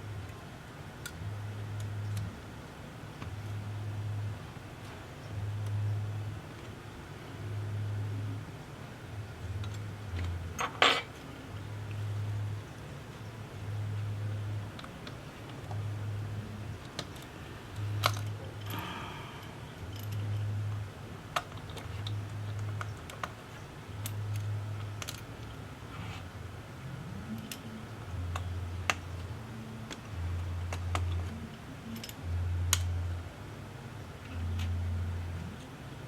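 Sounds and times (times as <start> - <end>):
low hum: 3.2 - 36.0.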